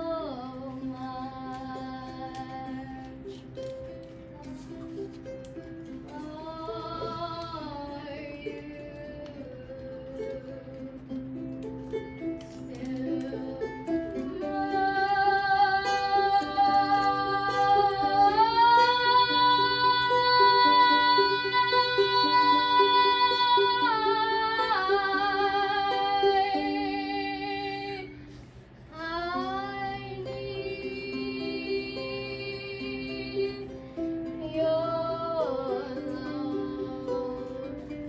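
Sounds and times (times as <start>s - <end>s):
girls singing: 0.0s - 38.0s
strummed ukulele: 0.0s - 38.0s.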